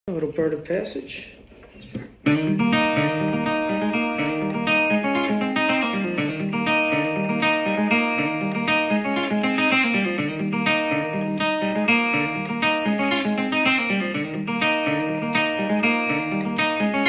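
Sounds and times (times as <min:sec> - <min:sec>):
picked guitar notes: 0:01.7 - 0:17.0.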